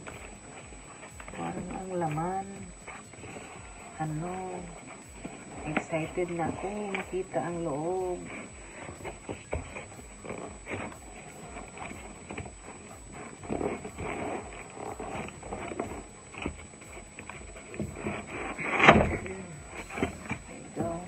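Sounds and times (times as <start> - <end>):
cardboard rustling and scraping: 0.0 - 21.0.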